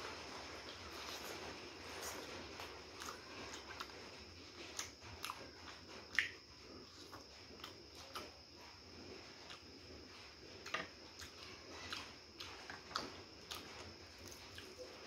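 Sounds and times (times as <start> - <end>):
people chewing crunchy food: 0.0 - 15.0.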